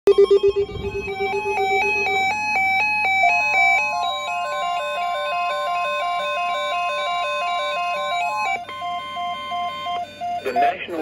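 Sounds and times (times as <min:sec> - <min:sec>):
electronic alarm beeps: 0:00.1 - 0:11.0
steady high alert tone: 0:00.1 - 0:11.0.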